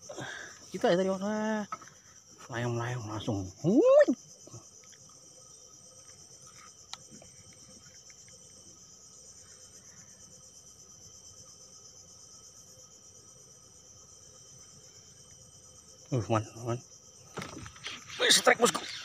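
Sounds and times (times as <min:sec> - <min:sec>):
insects shrilling: 0:00.0 - 0:19.0.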